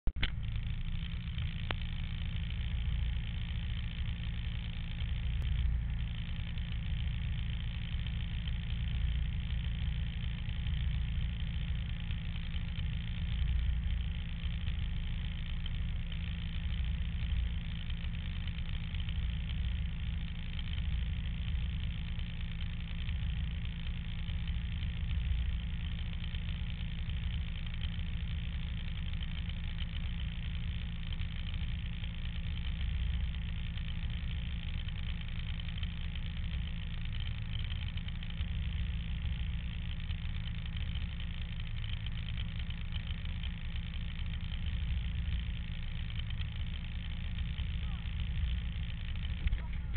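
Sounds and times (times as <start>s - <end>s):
snowmobile engine idling: 0.0s - 49.9s.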